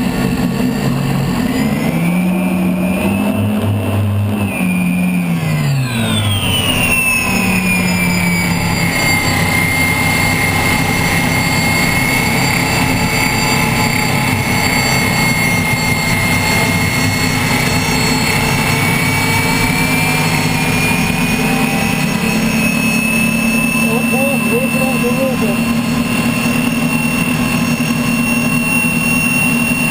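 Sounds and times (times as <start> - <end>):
deep engine drone: 0.0 - 29.9
gas-turbine engine whine: 0.0 - 29.9.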